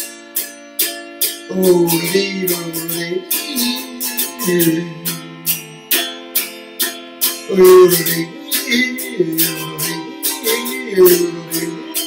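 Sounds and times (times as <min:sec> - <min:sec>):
autoharp strummed: 0:00.0 - 0:12.0.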